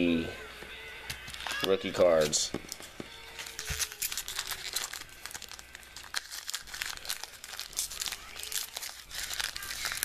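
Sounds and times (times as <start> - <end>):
foil wrapper crinkling and tearing: 1.3 - 10.0.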